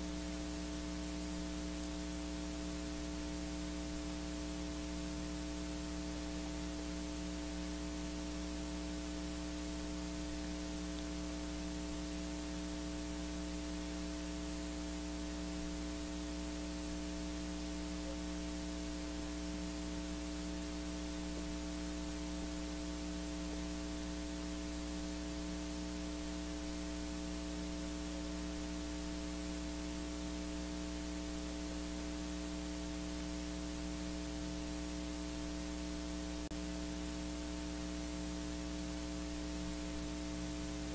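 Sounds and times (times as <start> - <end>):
electrical mains hum: 0.0 - 40.9
recording hiss: 0.0 - 40.9.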